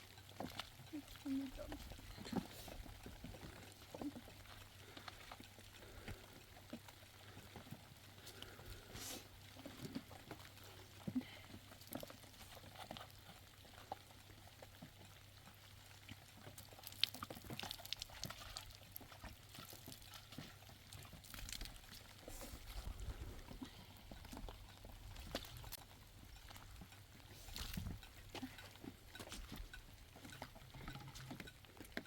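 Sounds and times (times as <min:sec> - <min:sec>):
faint rain patter: 0:00.0 - 0:32.0
water drips: 0:00.0 - 0:32.0.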